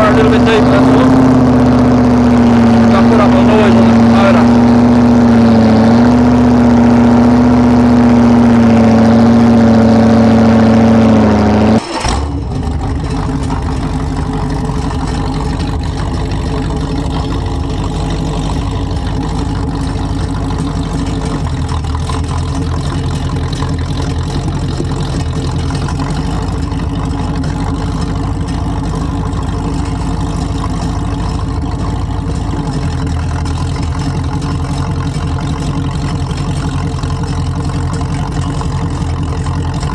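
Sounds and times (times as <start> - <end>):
tractor engine running under load: 0.0 - 39.9
tractor engine with rough firing beat: 0.0 - 39.9.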